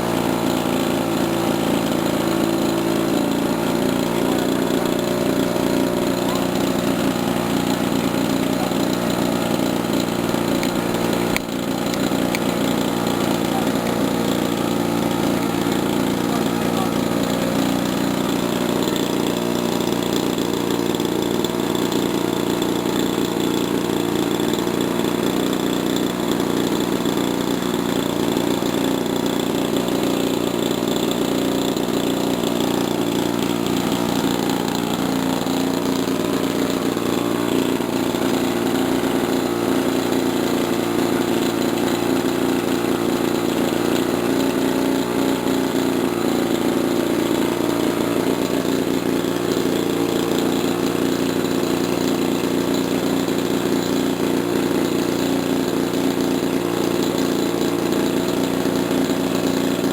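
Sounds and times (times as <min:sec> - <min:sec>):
model aircraft engine running: 0:00.0 - 0:59.9.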